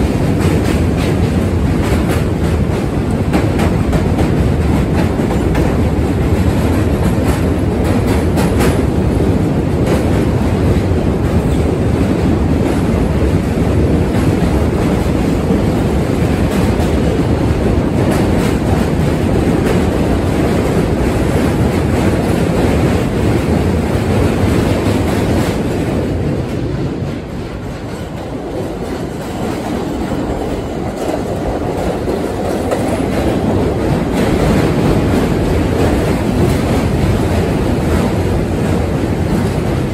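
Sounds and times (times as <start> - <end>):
subway train wheels on rails: 0.0 - 39.9.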